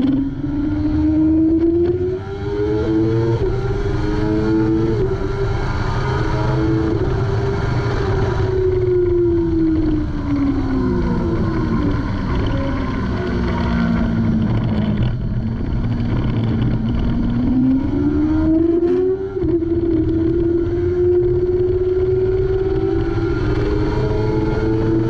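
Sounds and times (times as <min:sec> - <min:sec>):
motorcycle engine at speed: 0:00.0 - 0:25.0.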